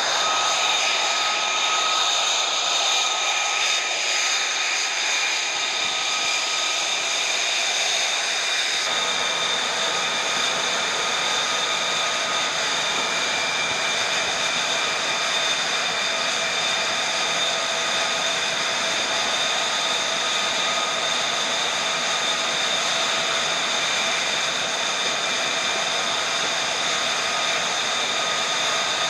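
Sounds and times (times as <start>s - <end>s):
jet engine whine: 0.0s - 29.0s.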